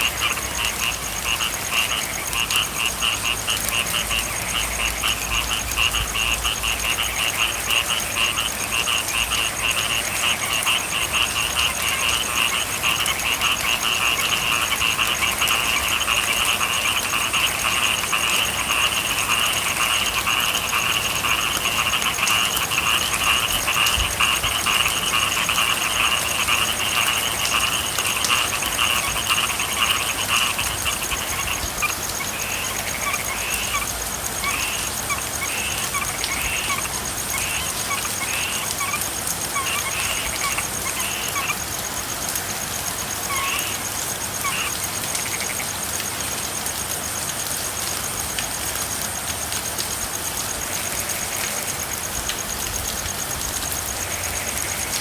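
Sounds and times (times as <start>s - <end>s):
frogs calling: 0.0s - 55.0s
steady rain hiss: 0.0s - 55.0s.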